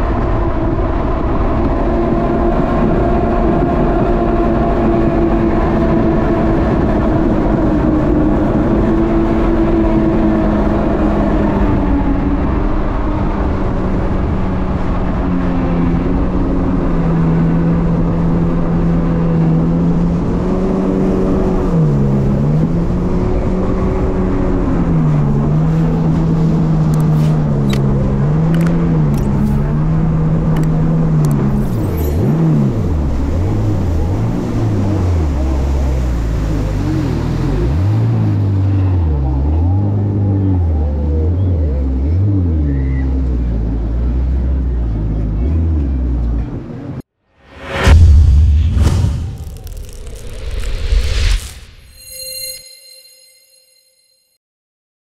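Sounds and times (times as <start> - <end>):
jet ski engine running: 0.0 - 46.8.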